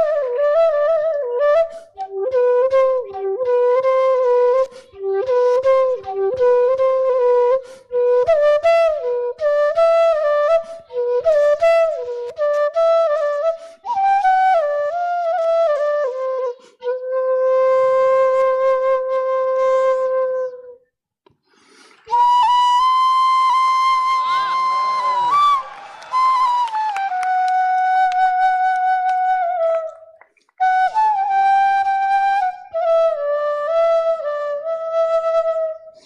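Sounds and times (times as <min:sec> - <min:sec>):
solo flute melody: 0:00.0 - 0:20.9, 0:22.0 - 0:36.0.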